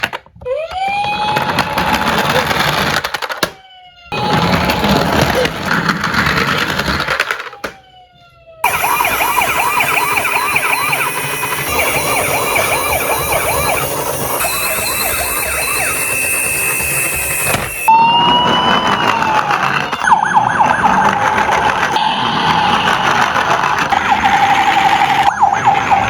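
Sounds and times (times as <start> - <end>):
siren steady wail: 0.4 - 2.1, 3.6 - 5.3, 7.7 - 26.0
emergency sirens yelping: 0.4 - 2.3, 3.6 - 5.6, 7.8 - 26.0.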